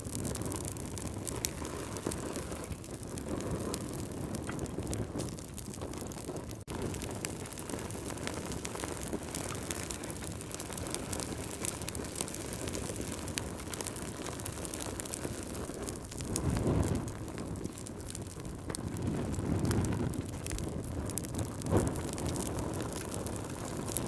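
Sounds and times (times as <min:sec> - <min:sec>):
fire crackling and popping: 0:00.0 - 0:24.0
fire flames hissing: 0:00.0 - 0:24.0.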